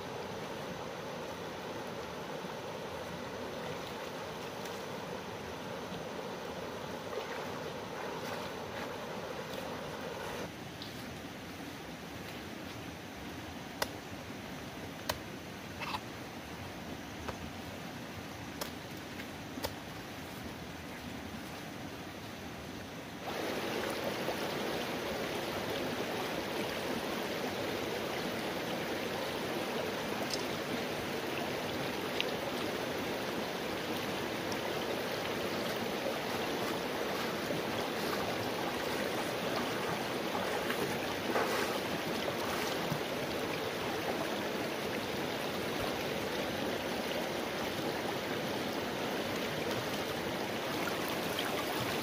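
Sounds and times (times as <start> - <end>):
stream flowing over rocks: 0.0 - 52.0.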